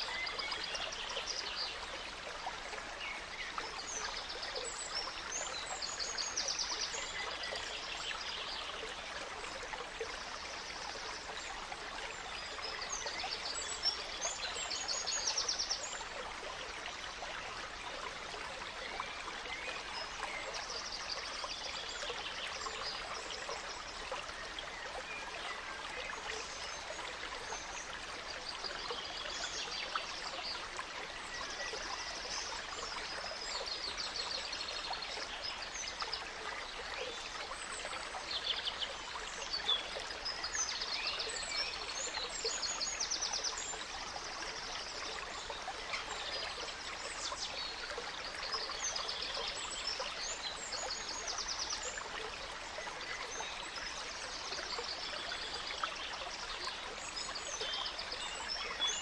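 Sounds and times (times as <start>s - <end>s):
gentle stream flowing: 0.0s - 59.0s.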